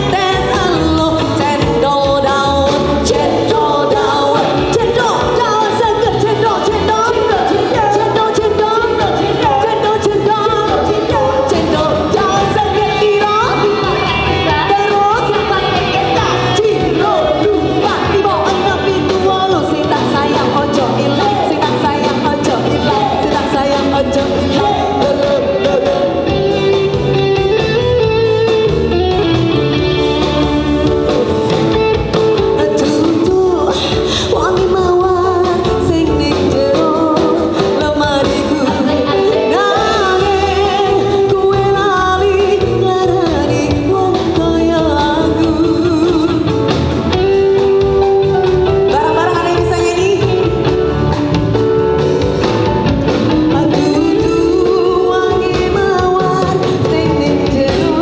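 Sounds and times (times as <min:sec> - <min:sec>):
woman singing into a microphone: 0:00.0 - 0:26.9, 0:30.2 - 0:47.7, 0:48.7 - 0:50.8, 0:53.2 - 0:58.0
live band with guitar and drums: 0:00.0 - 0:58.0.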